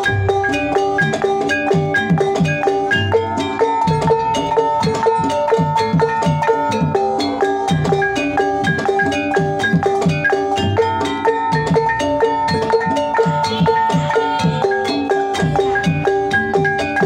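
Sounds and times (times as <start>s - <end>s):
hand drum strokes: 0.0s - 17.0s
tuned keyed percussion: 0.0s - 17.0s.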